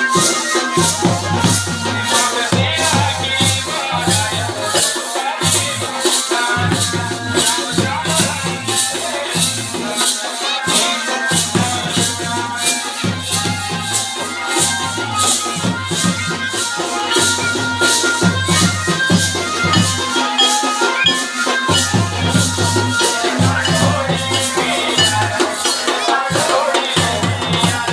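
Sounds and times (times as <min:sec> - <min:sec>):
folk music with shaker beat: 0:00.0 - 0:27.9.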